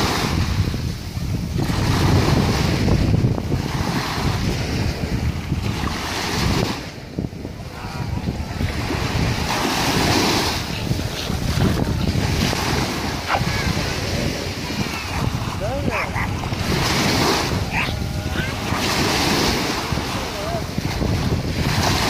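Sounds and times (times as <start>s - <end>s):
small waves washing onto shore: 0.0s - 22.0s.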